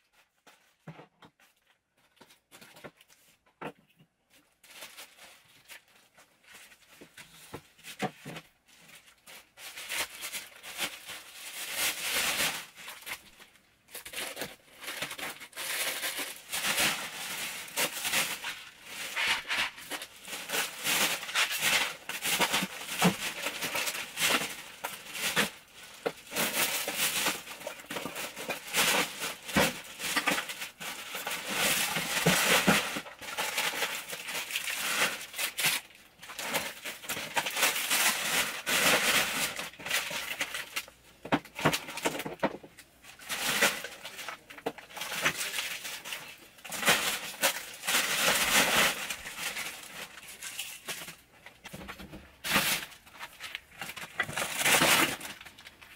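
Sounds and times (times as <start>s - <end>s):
plastic bin bag rustling: 4.3s - 55.9s.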